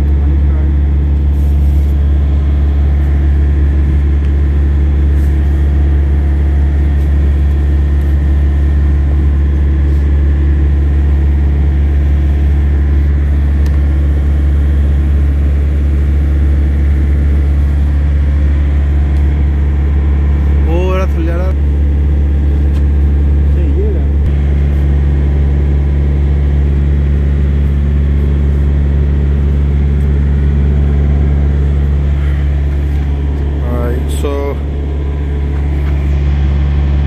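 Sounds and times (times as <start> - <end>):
large engine idling: 0.0 - 37.0.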